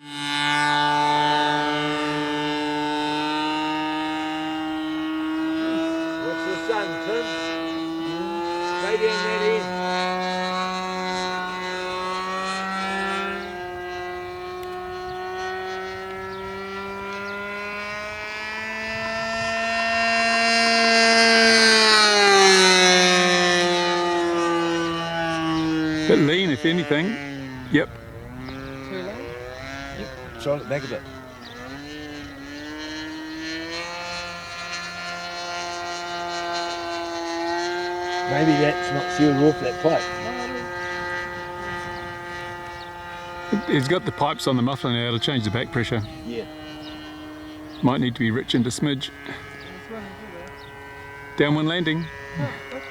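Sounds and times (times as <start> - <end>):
model aircraft engine buzzing: 0.0 - 52.9.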